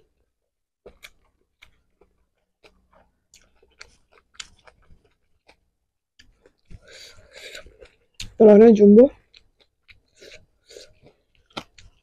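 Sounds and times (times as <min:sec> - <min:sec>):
person chewing food: 0:00.0 - 0:08.4, 0:09.1 - 0:12.0.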